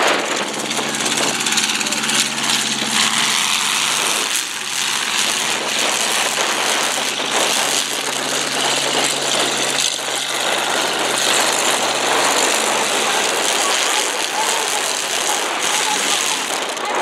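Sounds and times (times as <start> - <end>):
car engines running together: 0.0 - 17.0.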